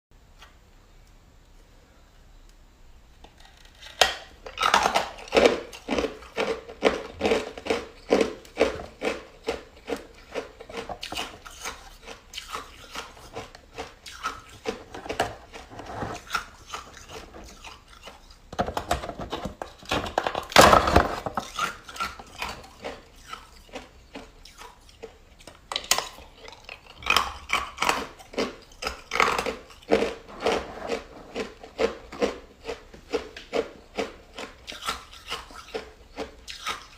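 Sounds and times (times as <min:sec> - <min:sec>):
ice being chewed: 0:03.8 - 0:18.4, 0:21.4 - 0:36.9.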